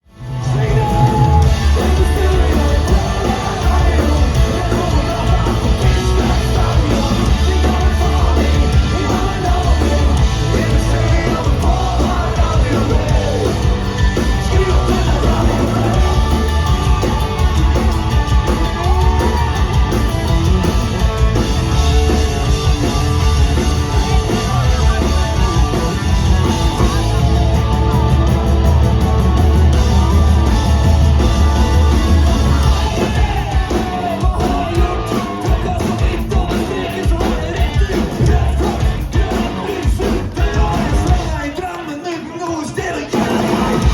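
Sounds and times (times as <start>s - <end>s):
rock band playing live: 0.0s - 43.9s
heavy pounding bass: 0.2s - 41.5s, 43.3s - 43.9s
person yelling singing: 0.3s - 20.1s, 22.0s - 27.2s, 31.5s - 43.9s.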